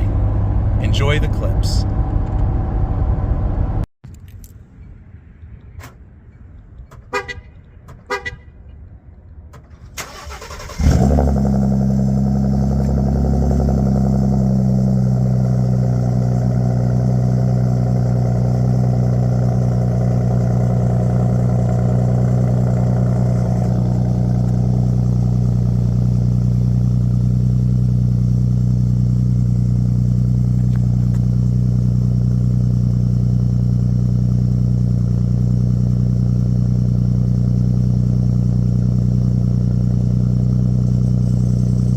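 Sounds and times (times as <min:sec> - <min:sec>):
truck engine cranking and idling: 0:00.0 - 0:04.8, 0:08.9 - 0:41.9.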